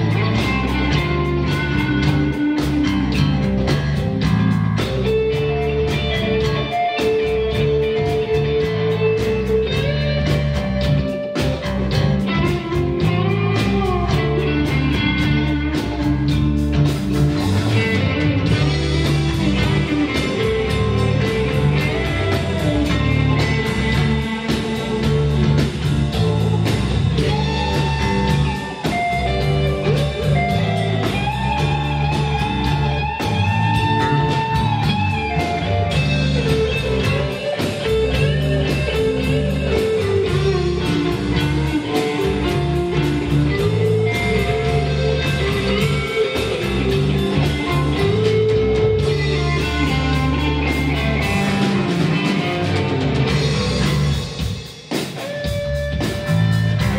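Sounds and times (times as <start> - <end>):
electric guitar lead: 0.0 - 56.9
live rock band: 0.0 - 56.9.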